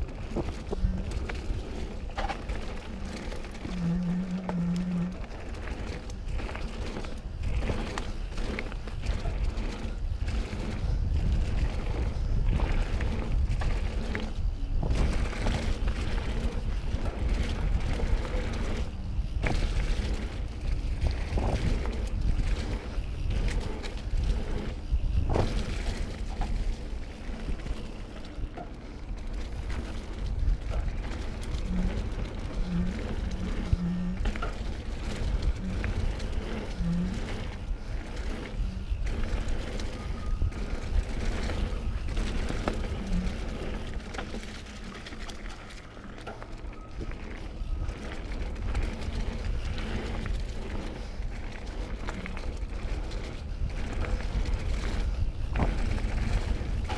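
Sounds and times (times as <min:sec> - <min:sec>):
bike rolling on dirt trail: 0:00.0 - 0:56.9
wind and tyres rumbling: 0:00.0 - 0:56.9.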